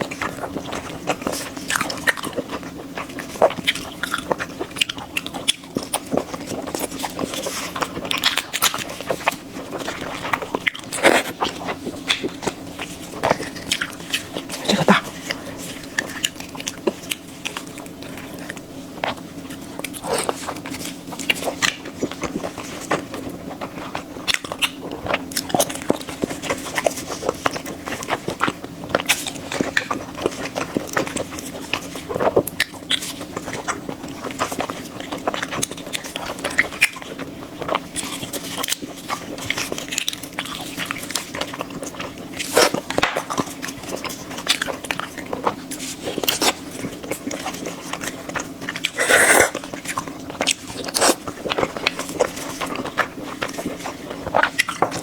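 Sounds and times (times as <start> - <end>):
close eating and chewing: 0.0 - 55.0
steady low hum: 0.0 - 55.0.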